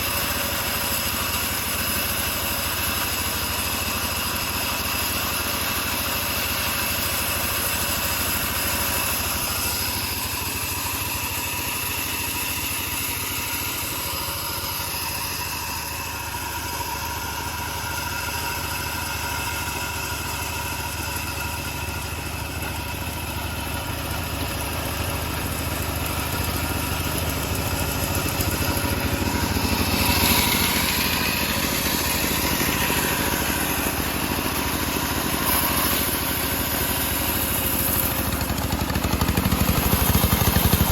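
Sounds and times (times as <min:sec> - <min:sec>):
bandsaw engine running: 0:00.0 - 0:40.9.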